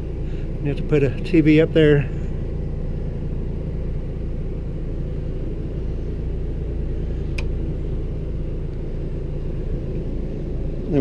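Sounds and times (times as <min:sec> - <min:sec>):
generator droning: 0:00.0 - 0:11.0.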